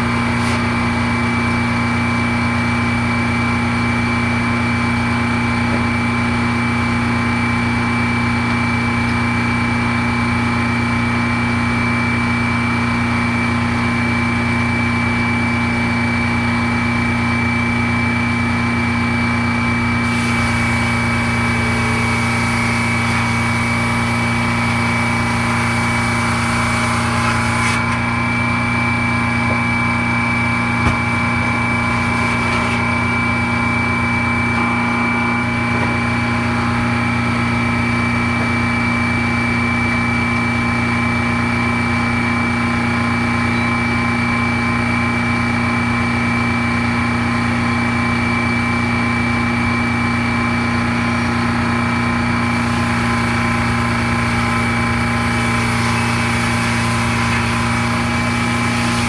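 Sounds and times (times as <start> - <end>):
circular sawmill running: 0.0 - 46.9, 49.0 - 59.0.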